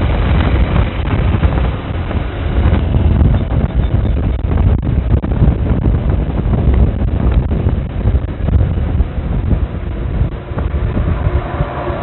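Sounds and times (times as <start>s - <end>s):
road and vehicle noise: 0.0s - 12.0s
wind buffeting microphone: 0.0s - 12.0s.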